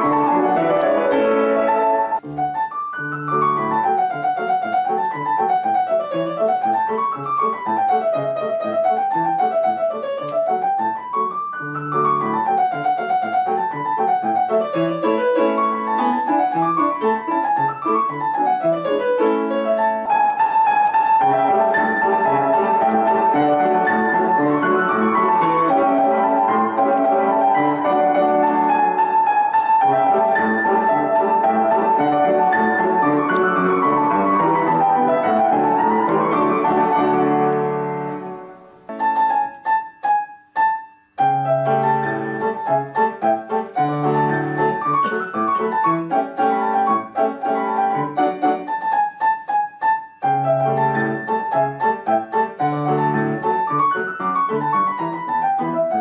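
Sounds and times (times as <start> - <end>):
solo piano playing a polka: 0.0 - 56.0.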